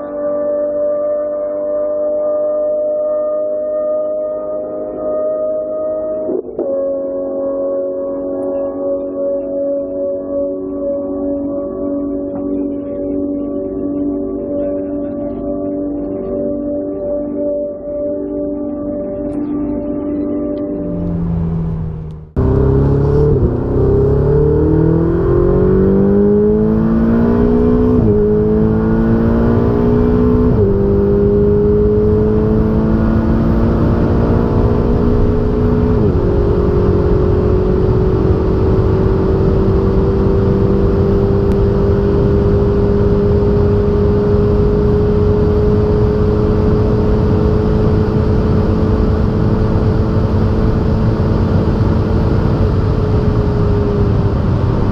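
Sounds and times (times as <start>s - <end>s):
sports car engine accelerating: 0.0s - 17.4s, 19.2s - 54.9s.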